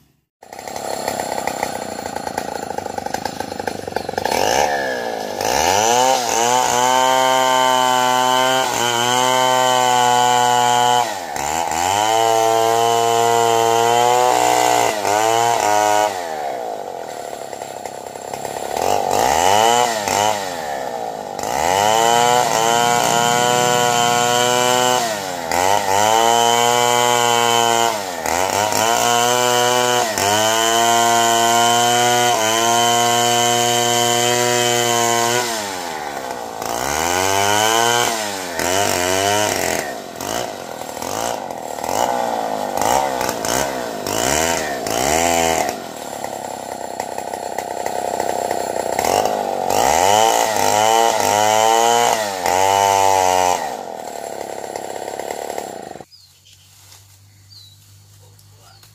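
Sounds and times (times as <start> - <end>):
chainsaw cutting wood: 0.2 - 56.1.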